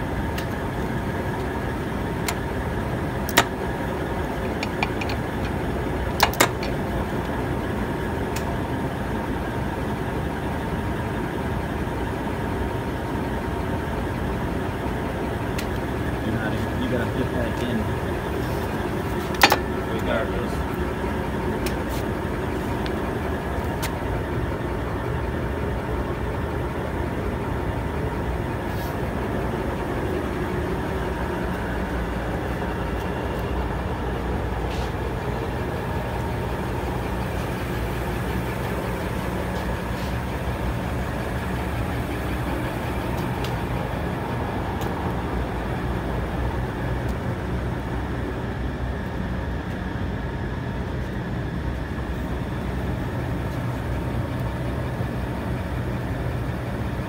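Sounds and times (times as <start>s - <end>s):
heavy machinery humming: 0.0s - 57.0s.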